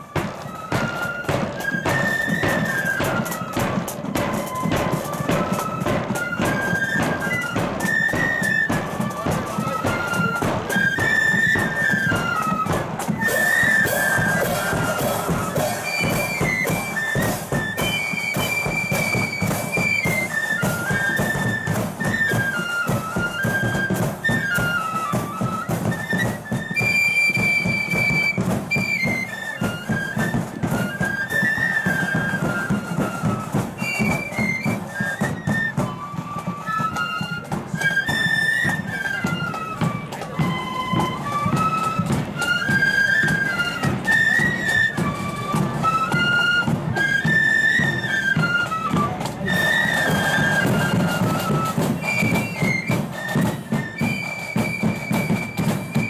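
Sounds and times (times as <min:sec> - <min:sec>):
drums and cymbals: 0:00.0 - 0:56.0
flute band playing a march: 0:00.0 - 0:56.0.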